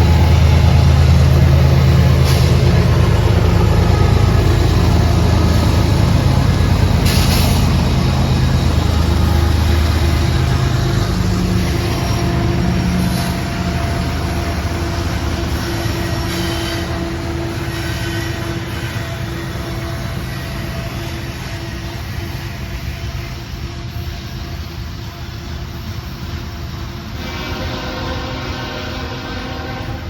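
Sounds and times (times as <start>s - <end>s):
freight train cars rolling on rails: 0.0s - 30.0s
locomotive engine hum: 0.0s - 30.0s.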